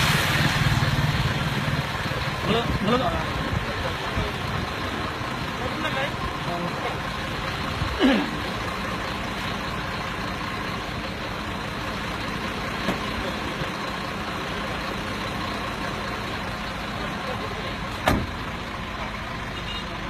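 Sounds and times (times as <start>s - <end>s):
engine running under load: 0.0s - 20.0s.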